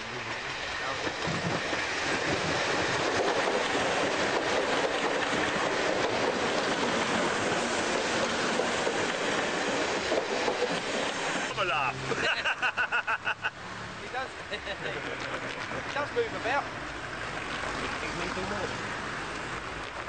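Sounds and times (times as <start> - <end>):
train passing close by: 0.0 - 20.0.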